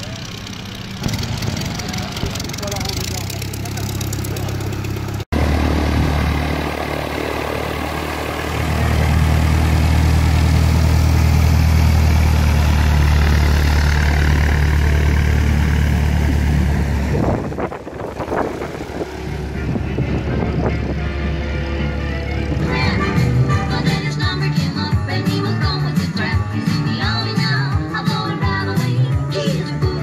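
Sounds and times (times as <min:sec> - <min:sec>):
light aircraft engine and propeller: 0:00.0 - 0:26.2.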